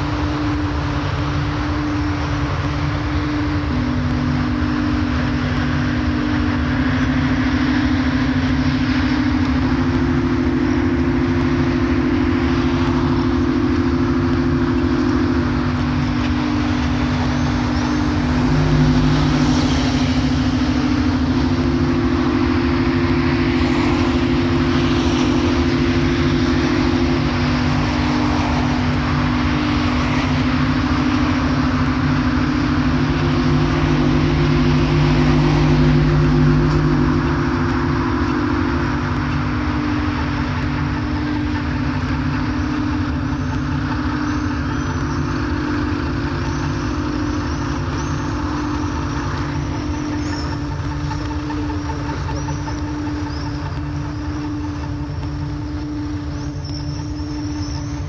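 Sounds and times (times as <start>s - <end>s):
city traffic noise: 0.0s - 58.0s
low drone of held tones: 0.0s - 58.0s.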